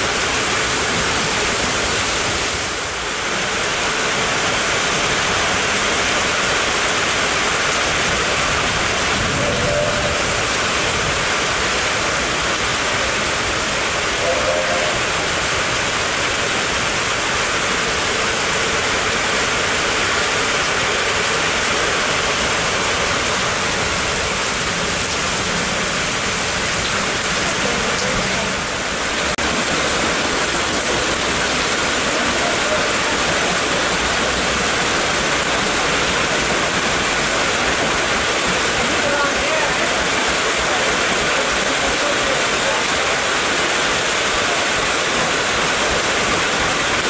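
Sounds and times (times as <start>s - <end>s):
rain on a metal roof: 0.0s - 47.0s
water pouring off eaves: 0.0s - 47.0s.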